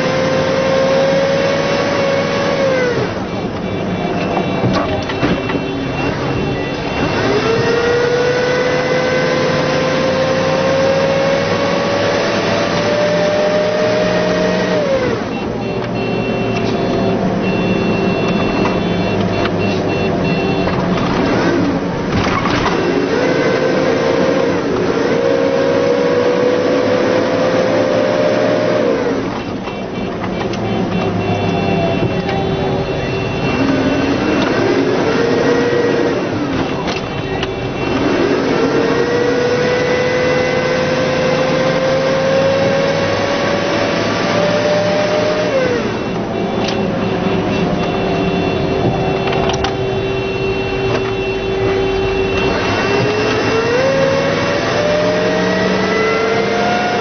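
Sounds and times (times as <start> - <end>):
vehicle engine accelerating: 0.0 - 15.6, 16.6 - 29.7, 30.5 - 57.0
tyre and road rumble: 0.0 - 57.0.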